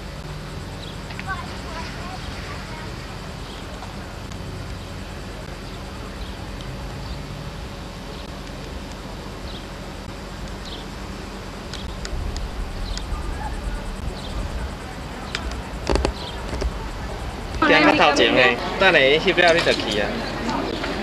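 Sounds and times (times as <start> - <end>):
microphone rumble: 0.0 - 21.0.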